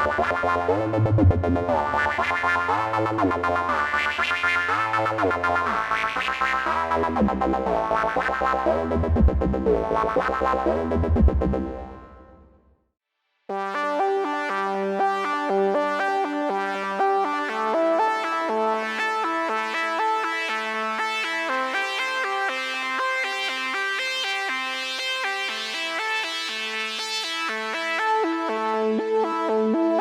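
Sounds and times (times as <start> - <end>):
synthesizer playing sequenced notes: 0.0 - 12.3, 13.5 - 30.0.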